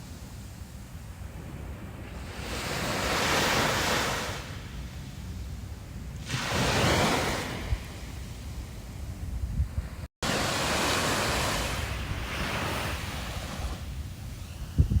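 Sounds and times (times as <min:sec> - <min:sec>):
wind buffeting microphone: 0:00.2 - 0:15.0
sea waves washing onto shore: 0:01.1 - 0:09.2, 0:09.8 - 0:15.0.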